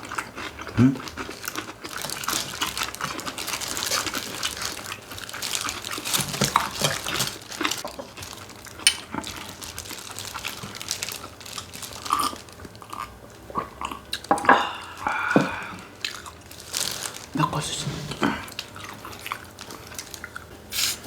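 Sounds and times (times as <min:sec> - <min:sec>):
chewing and crunching chicken: 0:00.0 - 0:20.8.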